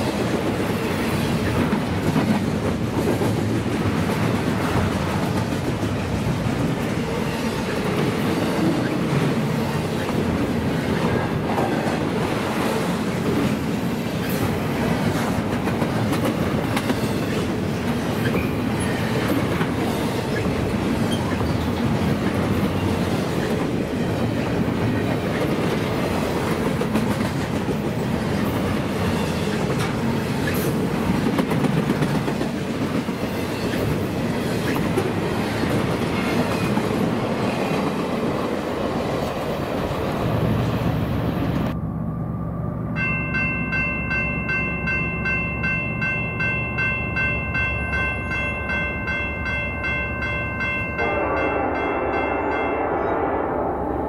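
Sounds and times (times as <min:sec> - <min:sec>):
train wheels rumbling on rails: 0:00.0 - 0:52.3.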